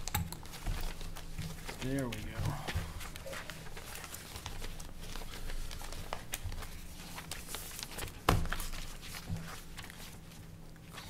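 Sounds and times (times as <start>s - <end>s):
paper pages rustling: 0.0s - 11.0s
steady low hum: 0.0s - 11.0s.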